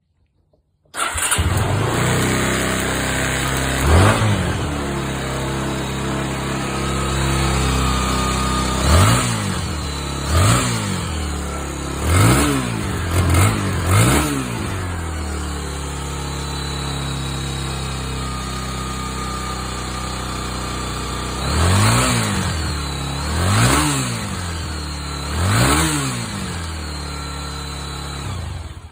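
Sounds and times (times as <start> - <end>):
engine throttle blips: 1.0 - 28.9
motorcycle engine idling: 1.0 - 28.9.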